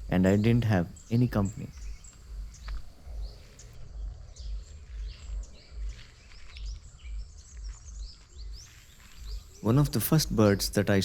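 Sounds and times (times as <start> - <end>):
birds chirping and whistling: 0.0 - 10.8.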